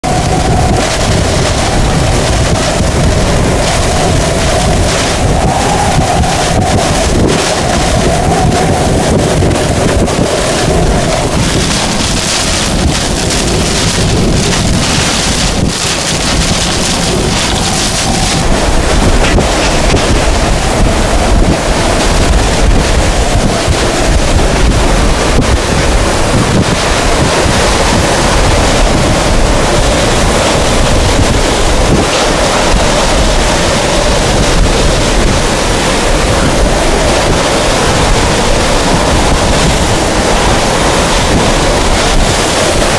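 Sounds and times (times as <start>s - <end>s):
wind buffeting on microphone: 0.0s - 42.9s
wind roaring and howling: 0.0s - 42.9s.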